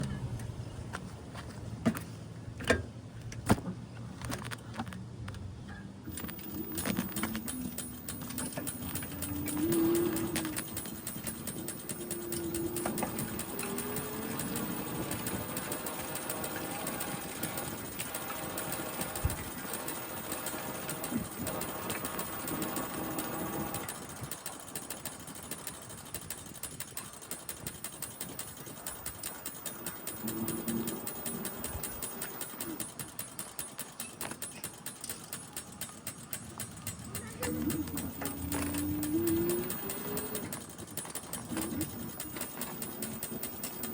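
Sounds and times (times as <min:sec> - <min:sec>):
bicycle ticking: 0:06.1 - 0:43.9.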